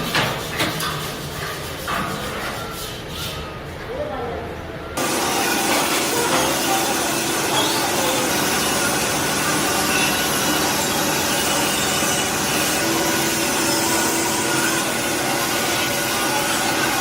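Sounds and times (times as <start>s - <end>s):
workshop machinery running: 0.0s - 17.0s.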